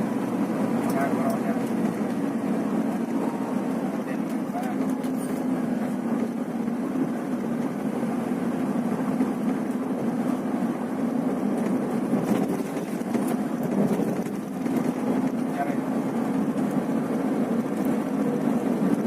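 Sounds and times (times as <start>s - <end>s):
coach diesel engine droning: 0.0s - 19.0s
road noise: 0.0s - 19.0s.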